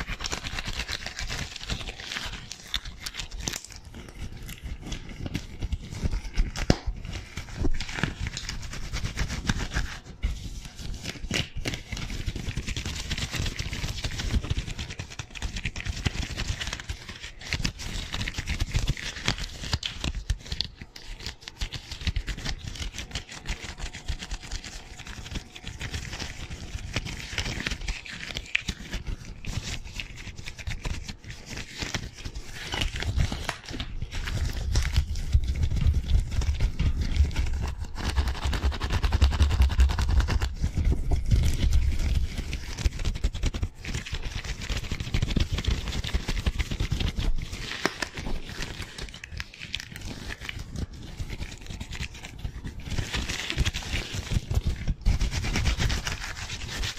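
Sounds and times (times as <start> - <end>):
rubber gloves rustling and snapping: 0.0 - 24.3, 24.9 - 56.9.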